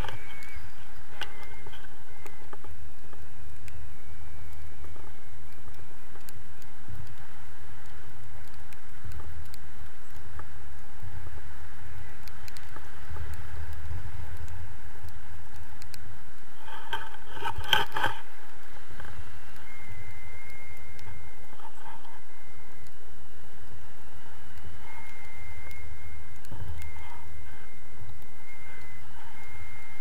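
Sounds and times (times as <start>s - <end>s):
wind rumble and hiss: 0.0s - 30.0s.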